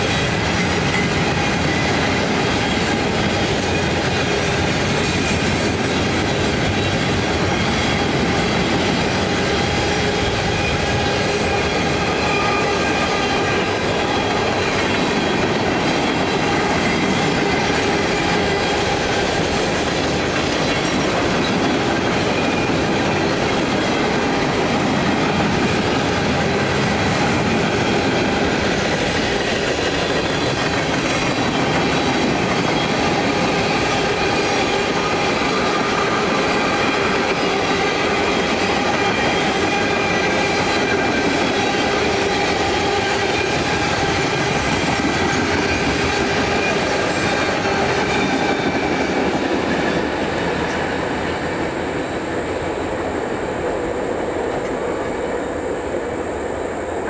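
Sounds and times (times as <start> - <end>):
high wheel squeal: 0.0 - 51.4
train wheels rumbling on rails: 0.0 - 57.0.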